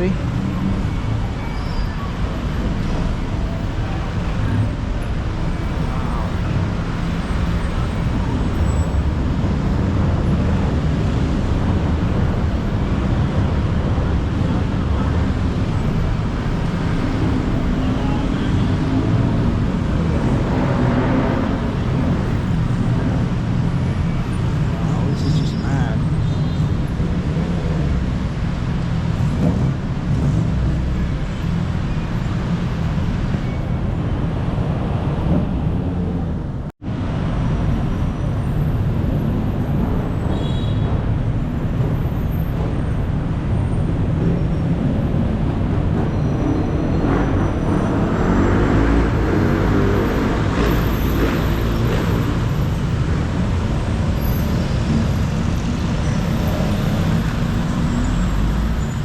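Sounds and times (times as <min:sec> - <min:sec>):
heavy road traffic: 0:00.0 - 0:59.0.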